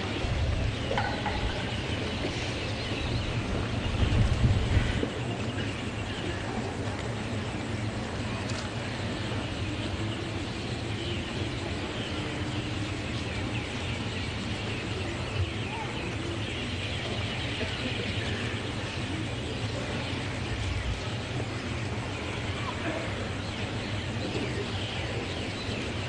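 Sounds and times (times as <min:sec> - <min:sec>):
constant low hum: 0:00.0 - 0:26.0.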